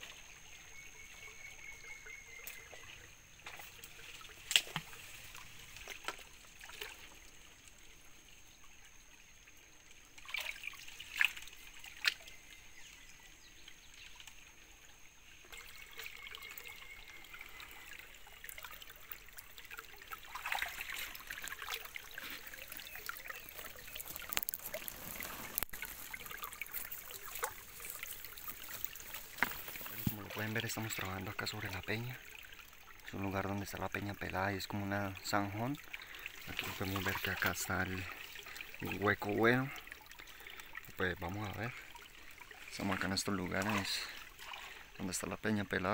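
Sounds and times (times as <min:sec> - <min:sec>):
creek water trickling: 0:00.0 - 0:45.9
water splashing and sloshing: 0:00.0 - 0:45.9.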